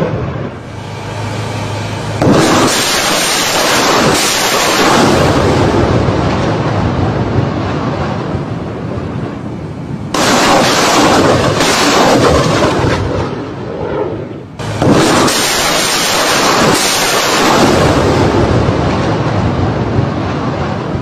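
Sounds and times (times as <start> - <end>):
rockets launching with rushing roar: 0.0 - 21.0.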